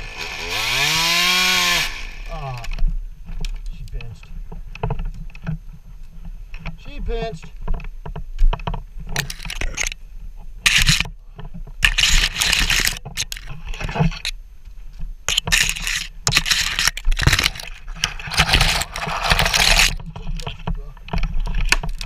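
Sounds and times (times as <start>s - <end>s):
branches scraping against helmet: 1.6s - 22.0s.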